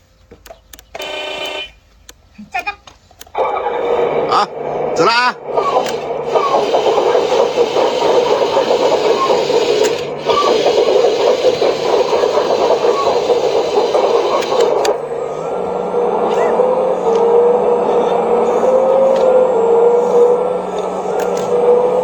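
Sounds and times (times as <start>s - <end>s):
electric motors whirring and grinding: 0.8s - 1.6s, 3.2s - 22.0s.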